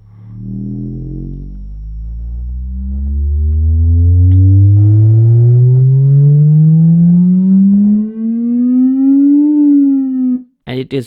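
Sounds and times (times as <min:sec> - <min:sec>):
speaker playing rising sine sweep: 0:00.0 - 0:10.5.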